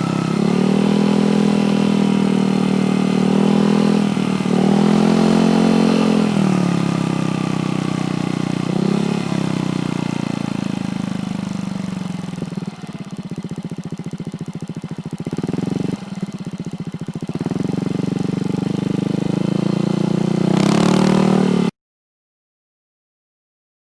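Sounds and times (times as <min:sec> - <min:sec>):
motorcycle engine revving: 0:00.0 - 0:21.7.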